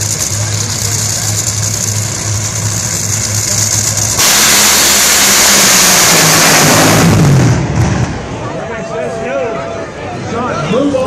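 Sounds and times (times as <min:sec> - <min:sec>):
dragster engines idling: 0:00.0 - 0:09.2
dragsters launching full throttle: 0:00.0 - 0:09.2.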